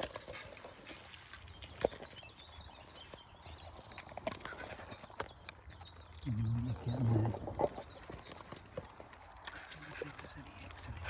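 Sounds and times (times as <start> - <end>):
faint birdsong: 0.0 - 11.0
twigs clicking and snapping: 0.0 - 11.0.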